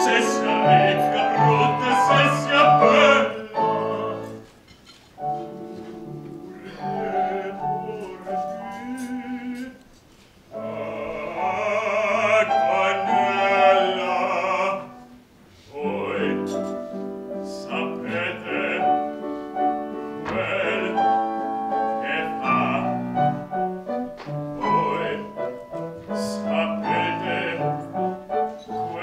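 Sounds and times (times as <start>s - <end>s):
operatic singing: 0.0s - 4.5s, 5.2s - 9.9s, 10.5s - 29.0s
piano accompaniment: 0.0s - 9.8s, 10.4s - 29.0s.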